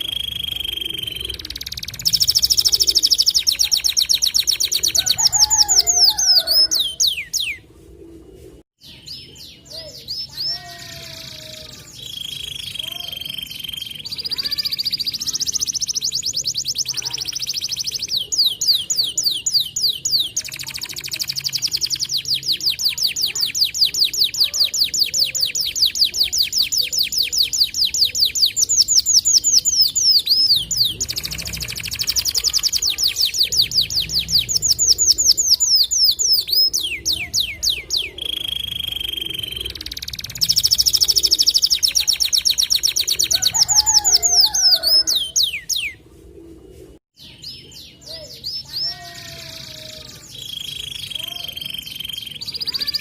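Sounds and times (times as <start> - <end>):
canary singing trills: 0.0 - 7.6, 8.8 - 46.0, 47.2 - 53.0.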